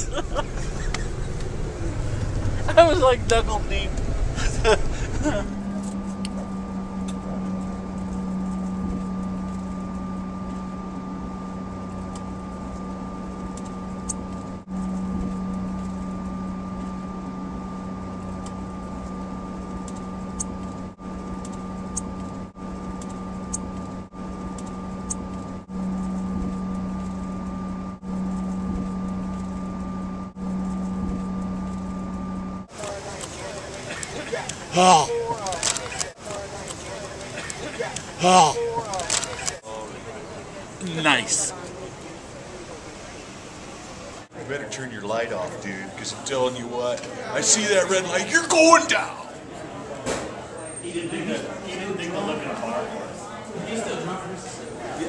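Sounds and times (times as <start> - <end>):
airliner cabin drone: 0.0 - 44.3.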